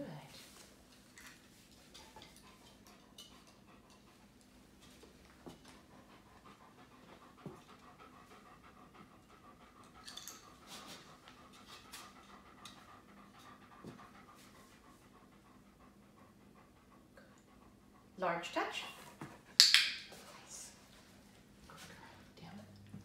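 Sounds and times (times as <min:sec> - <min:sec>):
dog panting softly: 0:00.1 - 0:19.6, 0:20.3 - 0:23.0.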